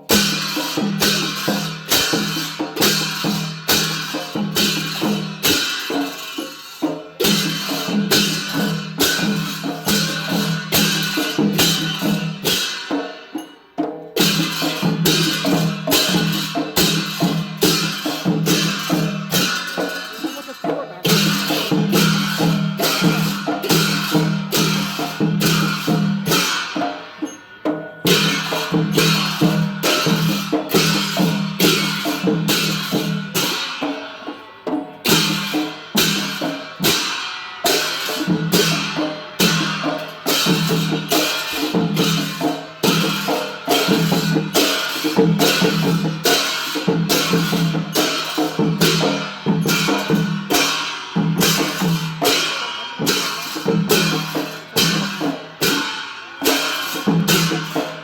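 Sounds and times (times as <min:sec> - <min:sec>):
cymbals clashing: 0:00.0 - 0:58.0
drums beating: 0:00.0 - 0:58.0.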